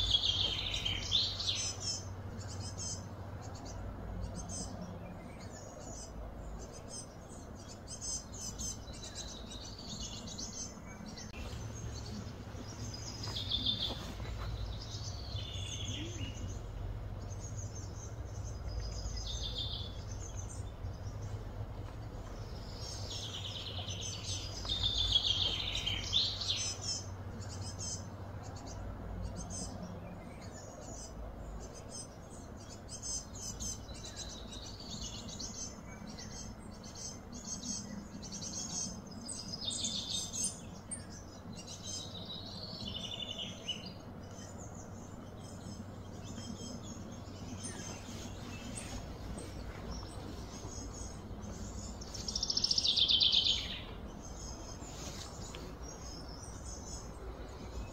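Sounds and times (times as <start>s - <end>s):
birds chirping and calling: 0.0s - 57.9s
steady low hum: 0.0s - 57.9s.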